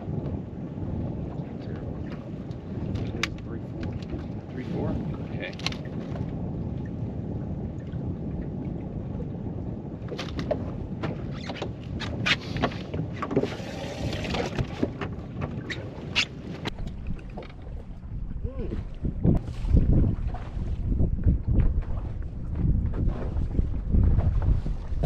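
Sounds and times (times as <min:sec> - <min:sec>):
wind and water noise: 0:00.0 - 0:25.0.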